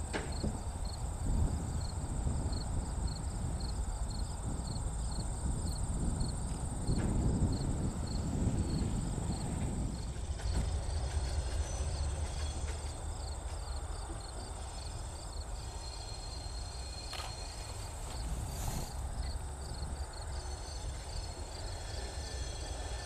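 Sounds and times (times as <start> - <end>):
crickets chirping: 0.0 - 23.0
high insect trill: 0.3 - 23.0.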